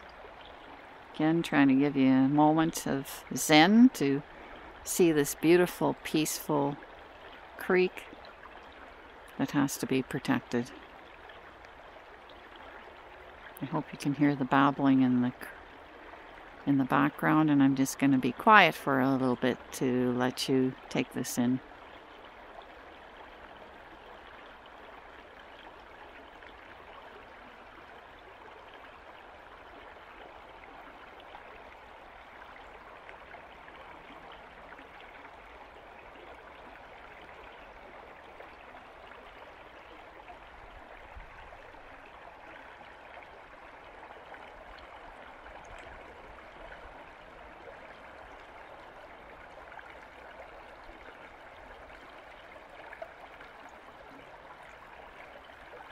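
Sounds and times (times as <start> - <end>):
creek babbling: 0.0 - 55.9.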